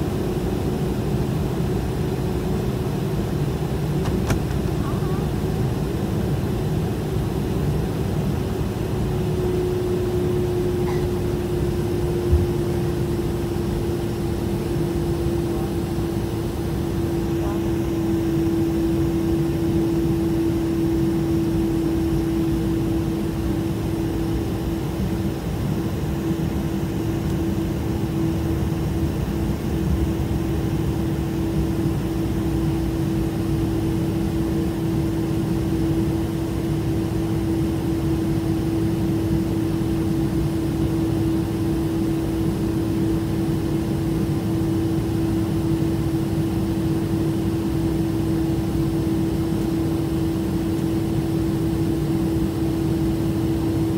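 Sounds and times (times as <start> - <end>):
constant hum: 0.0 - 53.9
engine and air system rumble: 0.0 - 53.9.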